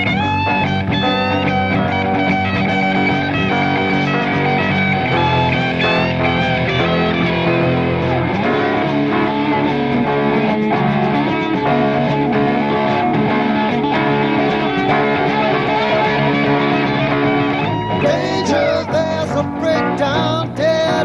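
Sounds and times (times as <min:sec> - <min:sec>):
electric guitar: 0:00.0 - 0:21.0
rock band playing instrumental: 0:00.0 - 0:21.0.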